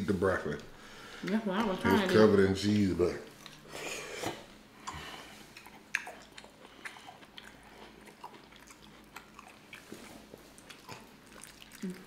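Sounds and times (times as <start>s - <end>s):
chewing and mouth sounds: 0.6s - 12.0s.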